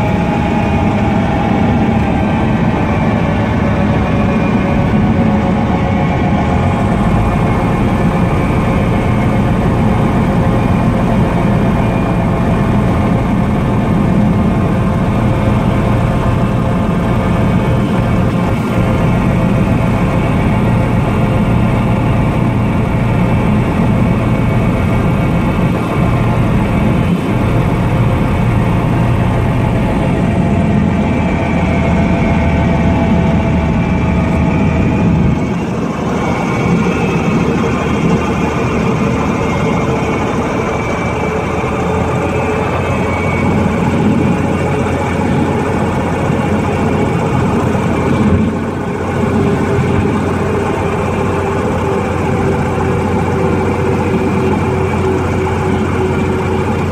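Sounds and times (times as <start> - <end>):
airplane engine and propeller: 0.0 - 56.9.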